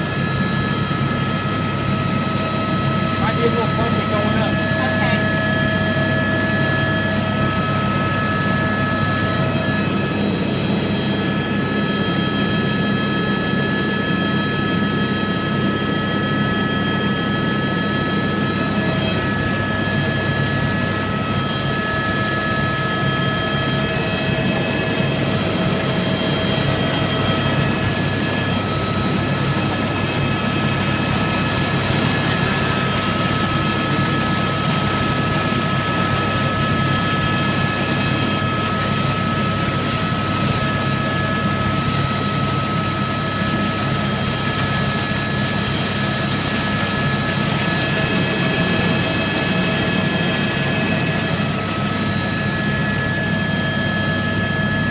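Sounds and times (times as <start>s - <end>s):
helicopter engine and rotor drone: 0.0s - 54.9s
high-pitched whine: 0.0s - 54.9s.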